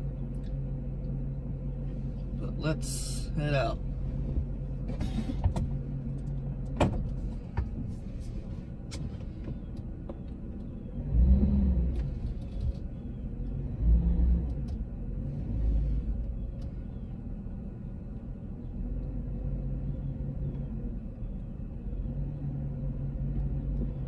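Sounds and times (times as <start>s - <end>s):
pickup truck engine rumbling: 0.0s - 24.0s.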